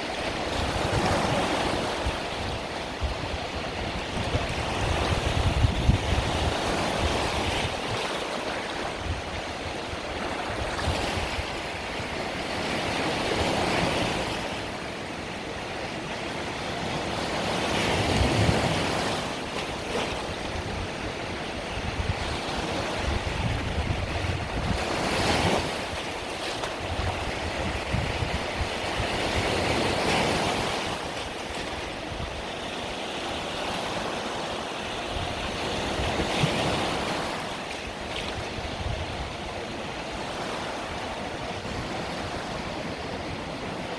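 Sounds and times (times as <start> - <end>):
wind buffeting microphone: 0.0 - 14.8, 15.6 - 34.1, 34.8 - 43.9
sea waves breaking on shore: 0.0 - 43.9.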